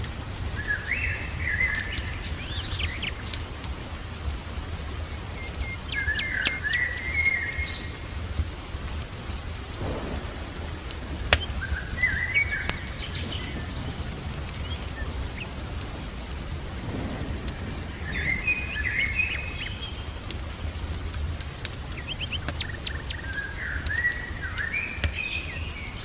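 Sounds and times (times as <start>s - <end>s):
birds chirping: 0.0s - 26.0s
fireplace crackling: 0.0s - 26.0s
steady rain: 0.0s - 26.0s.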